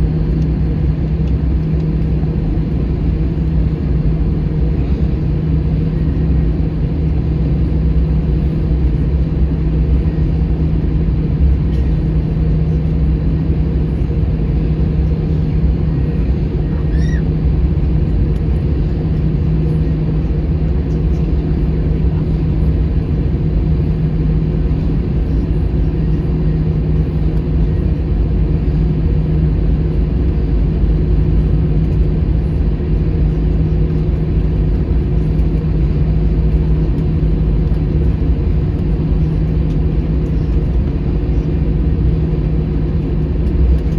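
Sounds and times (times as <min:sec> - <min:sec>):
constant low hum: 0:00.0 - 0:43.9
jet engines idling rumble: 0:00.0 - 0:43.9.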